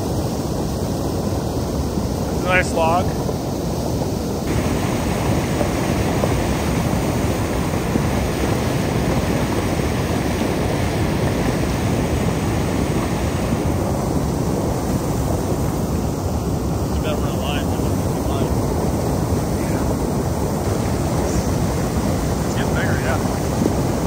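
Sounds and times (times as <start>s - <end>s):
bright hiss: 0.0s - 24.0s
floodwater rushing: 0.0s - 24.0s.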